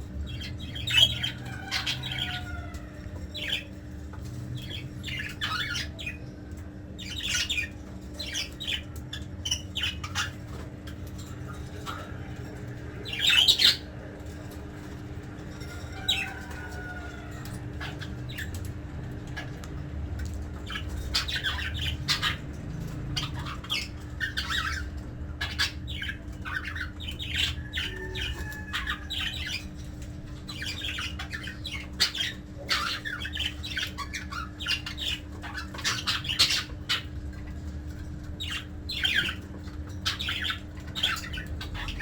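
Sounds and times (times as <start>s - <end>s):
steady low hum: 0.0s - 42.0s
budgerigars chattering: 0.2s - 14.6s, 15.5s - 42.0s.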